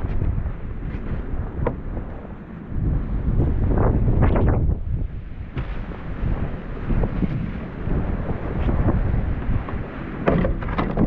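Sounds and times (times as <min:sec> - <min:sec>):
gusty wind buffeting microphone: 0:00.0 - 0:11.0.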